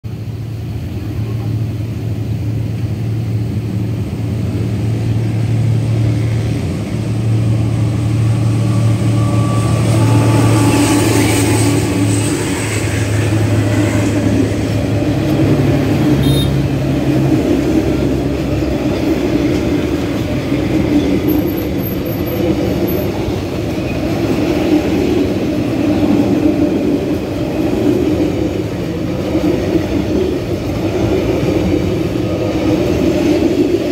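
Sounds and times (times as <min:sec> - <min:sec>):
train cars rumbling on rails: 0:00.0 - 0:33.9
locomotive engine droning: 0:00.1 - 0:33.9.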